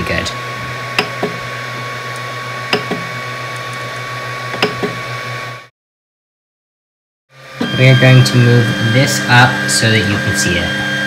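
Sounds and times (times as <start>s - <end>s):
printer fans running: 0.0s - 5.7s, 7.4s - 11.0s.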